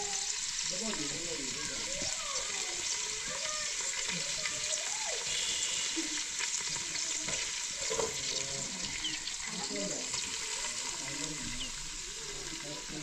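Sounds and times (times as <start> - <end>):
food sizzling in pot: 0.0 - 13.0.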